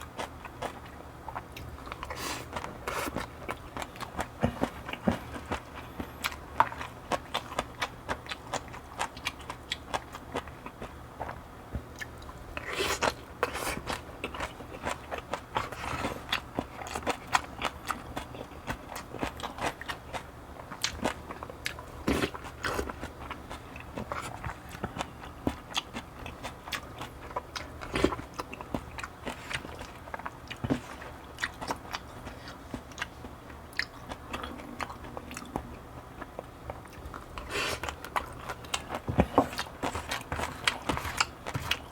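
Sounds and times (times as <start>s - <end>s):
food crunching: 0.0s - 41.9s
person chewing: 0.0s - 41.9s.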